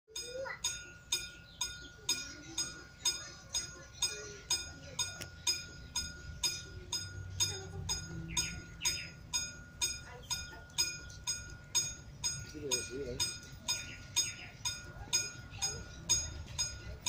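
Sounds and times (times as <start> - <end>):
level crossing warning bell: 0.1 - 17.0.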